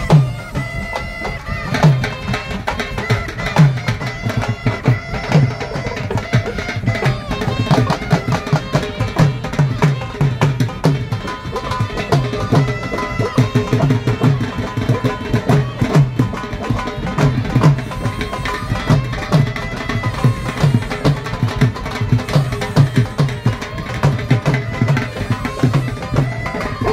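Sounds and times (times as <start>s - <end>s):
drum beat: 0.0s - 26.9s
gourd pipes playing melody: 0.0s - 26.9s.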